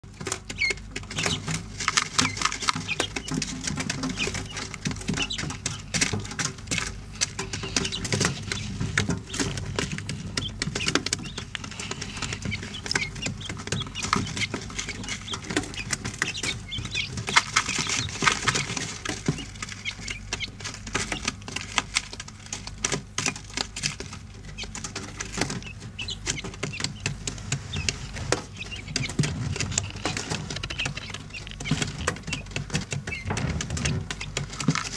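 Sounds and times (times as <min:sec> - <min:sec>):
chicks pecking and scratching litter: 0:00.0 - 0:34.9.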